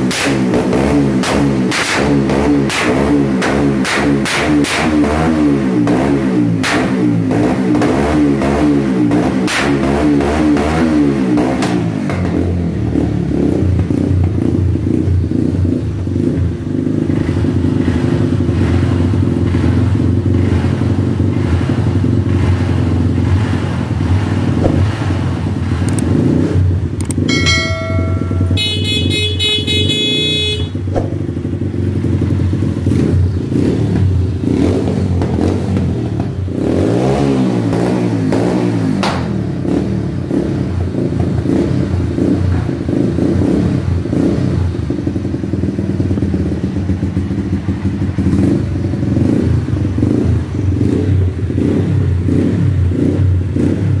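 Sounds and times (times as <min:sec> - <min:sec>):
dirt bike engine revving and idling: 0:00.0 - 0:54.0.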